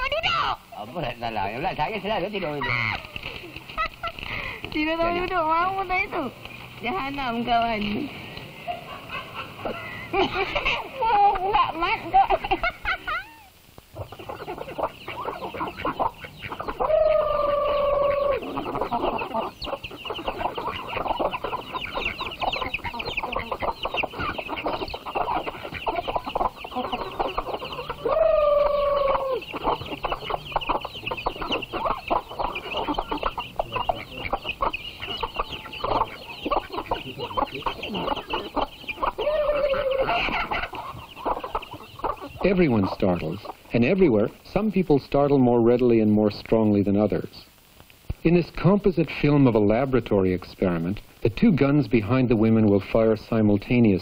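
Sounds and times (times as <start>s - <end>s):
drawn-out falling chicken calls: 0.0s - 44.7s
chickens clucking: 0.0s - 54.0s.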